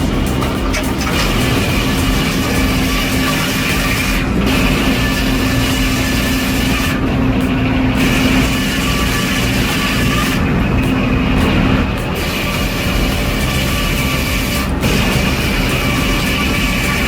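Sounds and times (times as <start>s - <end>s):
heavy machinery engine humming: 0.0s - 17.0s.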